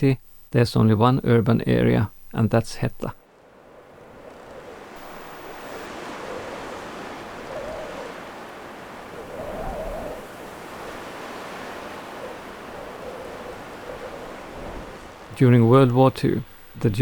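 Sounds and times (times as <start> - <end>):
faint humming: 0.0 - 17.0
steady rushing noise: 3.2 - 17.0.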